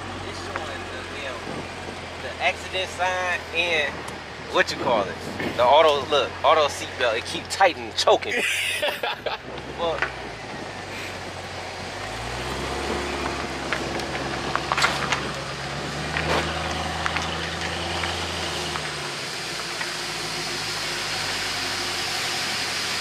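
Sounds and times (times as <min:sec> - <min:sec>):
car engine running at low speed: 0:00.0 - 0:23.0.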